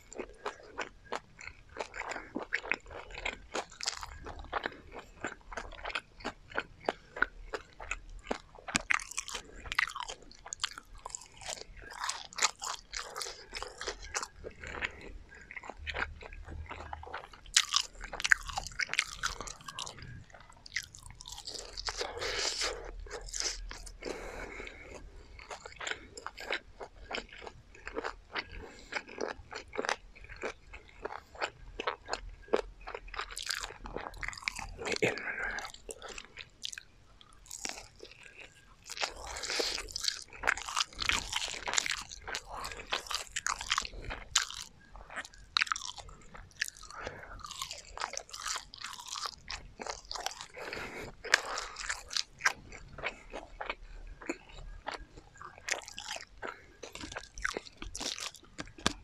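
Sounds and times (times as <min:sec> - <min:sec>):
crunchy chewing of fried chicken: 0:00.0 - 0:59.0.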